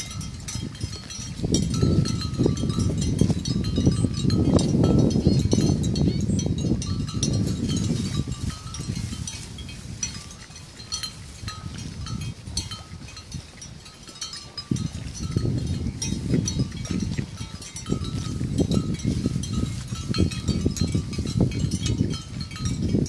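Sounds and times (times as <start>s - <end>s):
animal bells clinking: 0.0s - 23.0s.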